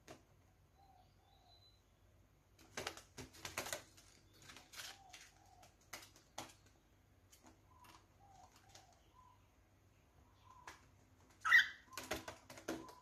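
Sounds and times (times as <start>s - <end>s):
soft bird chirps: 0.5s - 2.4s, 4.0s - 13.0s.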